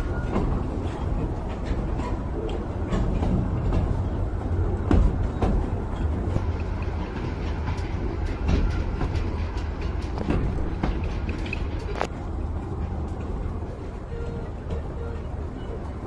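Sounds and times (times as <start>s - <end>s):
miniature train rumbling on track: 0.0s - 16.0s.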